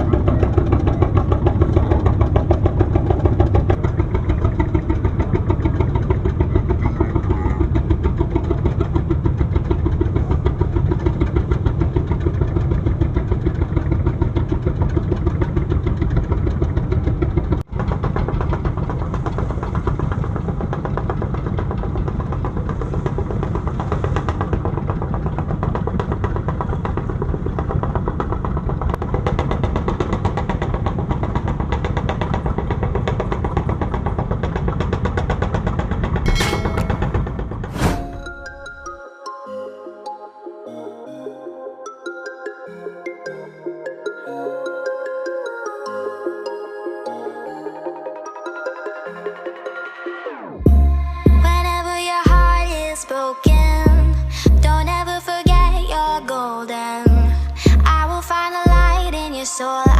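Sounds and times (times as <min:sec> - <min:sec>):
boat engine chugging: 0:00.0 - 0:44.4, 0:47.8 - 0:59.9.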